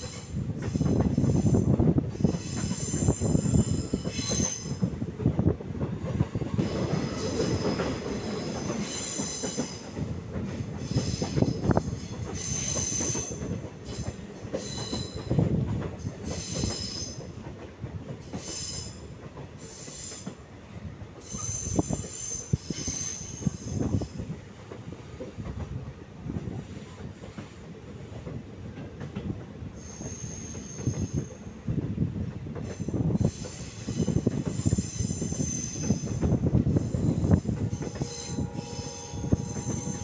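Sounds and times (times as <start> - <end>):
train wheels squealing on rails: 0.0 - 5.3, 6.0 - 25.6, 29.6 - 31.8, 32.6 - 40.0.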